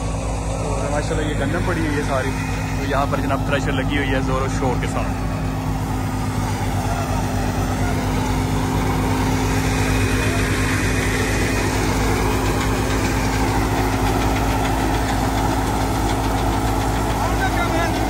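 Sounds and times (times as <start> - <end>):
tractor engine humming: 0.0 - 18.0
threshing drum and belts: 1.3 - 18.0.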